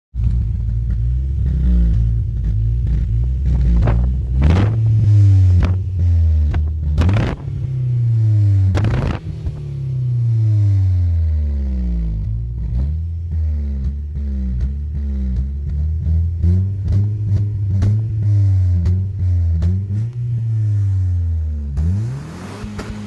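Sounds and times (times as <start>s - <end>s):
car engine revving: 0.2s - 23.0s.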